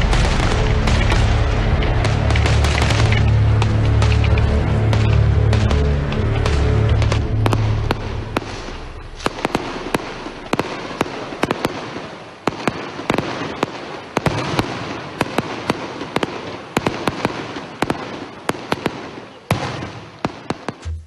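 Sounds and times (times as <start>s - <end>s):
firework sparks crackling: 0.0s - 20.9s
firework shells bursting: 0.0s - 21.0s.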